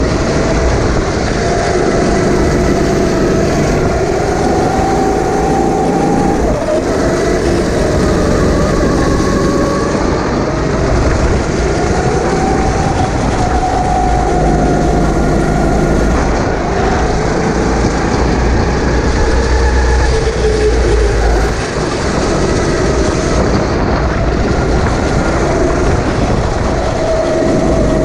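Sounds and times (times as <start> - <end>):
kart engine revving: 0.0 - 28.0.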